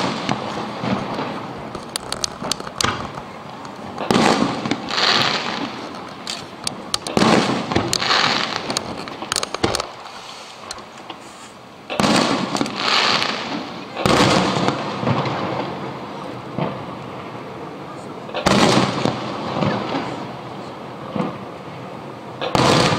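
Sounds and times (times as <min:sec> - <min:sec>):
firework booms with echo: 0:00.0 - 0:10.2, 0:11.9 - 0:17.4, 0:18.3 - 0:22.9
firework crackles: 0:00.0 - 0:22.9.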